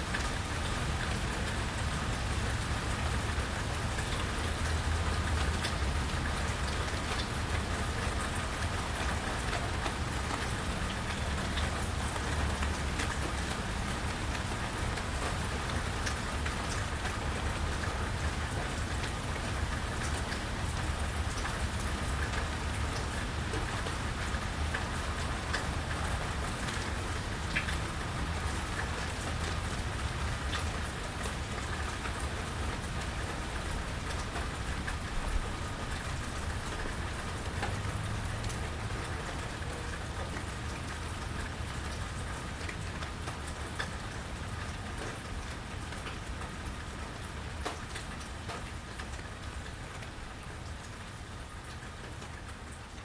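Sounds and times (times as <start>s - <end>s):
rain drops tapping: 0.0s - 53.0s.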